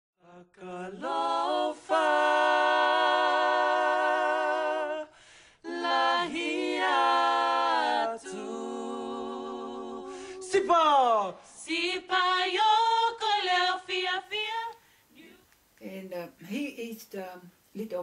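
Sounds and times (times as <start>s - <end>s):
unaccompanied singing: 0.2s - 10.7s, 11.5s - 15.5s.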